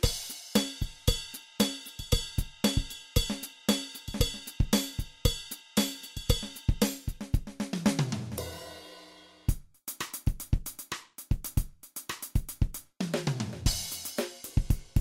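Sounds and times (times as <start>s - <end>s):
drum kit playing a beat: 0.0s - 15.0s.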